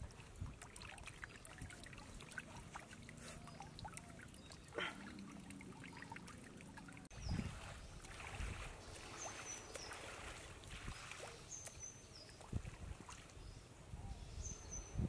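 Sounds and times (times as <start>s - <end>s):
water sloshing and splashing: 0.0s - 13.6s.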